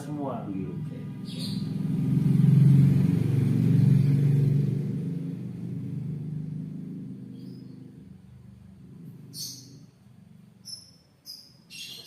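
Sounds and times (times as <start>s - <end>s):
vehicle engine passing by: 0.2s - 10.6s.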